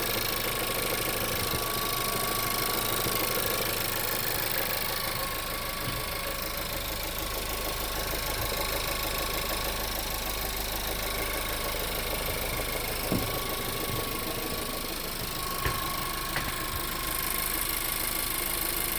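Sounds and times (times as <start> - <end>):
car engine idling with knock: 0.0 - 18.9
sharp engine clicks: 0.0 - 18.9.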